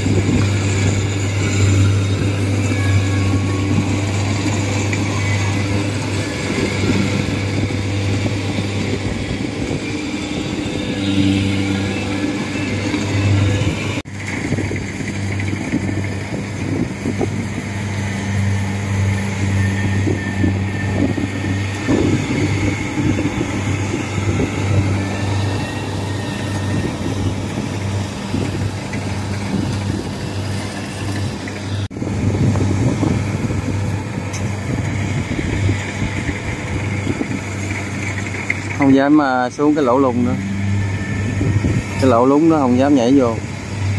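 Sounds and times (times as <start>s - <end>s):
combine harvester engine drone: 0.0s - 43.9s.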